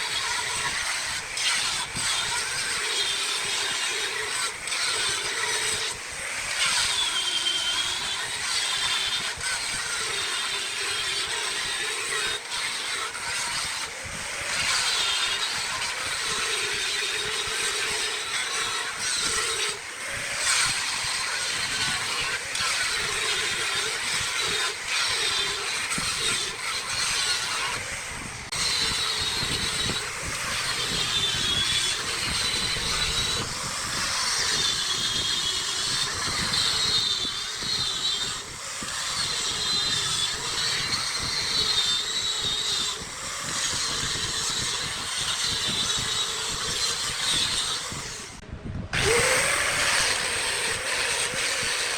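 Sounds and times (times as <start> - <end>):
wood lathe cutting wood: 0.0 - 51.9.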